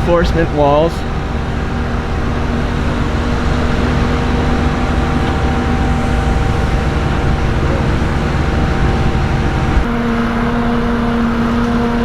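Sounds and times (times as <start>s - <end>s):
engines humming: 0.0s - 12.0s
traffic rush: 0.0s - 12.0s.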